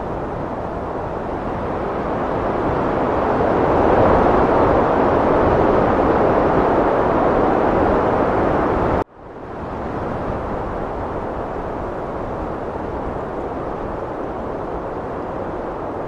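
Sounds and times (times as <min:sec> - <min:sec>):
heavy wind blowing: 0:00.0 - 0:16.0.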